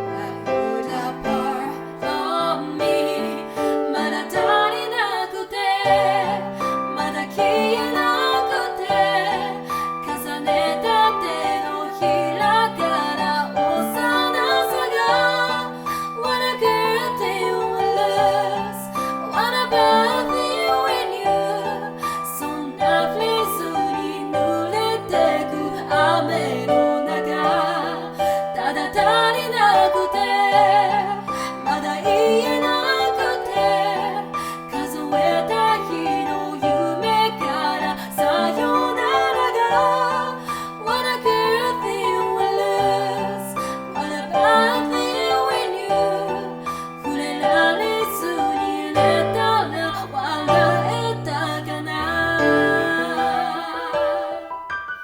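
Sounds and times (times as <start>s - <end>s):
woman singing: 0.0s - 54.6s
piano accompaniment: 0.0s - 55.0s.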